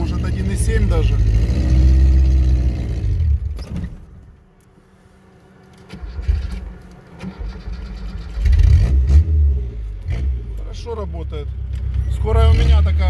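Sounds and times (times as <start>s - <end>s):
car engine revving: 0.0s - 3.6s, 5.8s - 13.0s.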